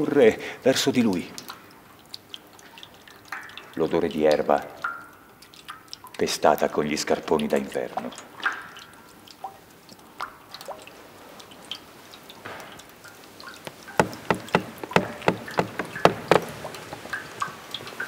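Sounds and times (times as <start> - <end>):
drip-like plinks and knocks: 1.1 - 6.7, 7.4 - 18.0.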